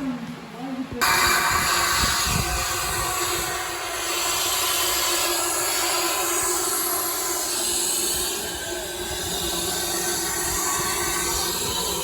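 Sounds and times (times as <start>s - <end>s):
train running with rushing hiss: 1.0s - 12.0s.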